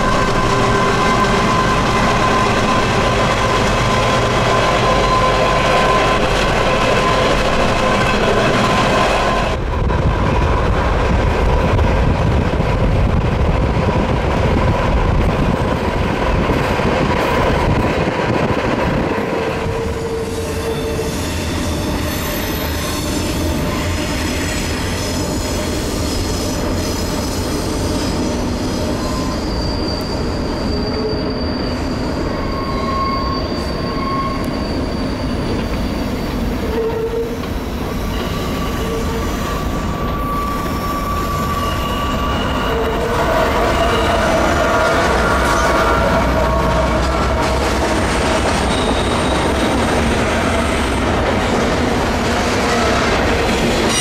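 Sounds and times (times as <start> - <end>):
wheels squealing against rails: 0.0 - 9.6, 16.3 - 54.0
freight train rumble: 0.0 - 54.0.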